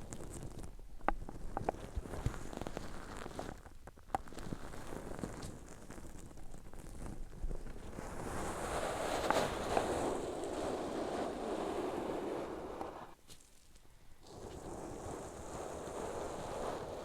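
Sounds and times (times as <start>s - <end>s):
close rustling: 0.0s - 17.0s.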